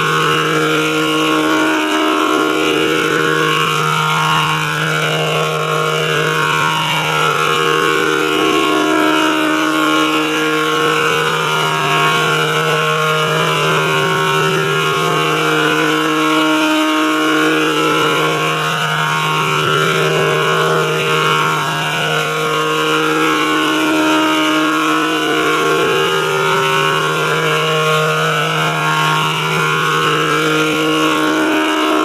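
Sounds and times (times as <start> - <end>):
synthesized drone: 0.0 - 32.0.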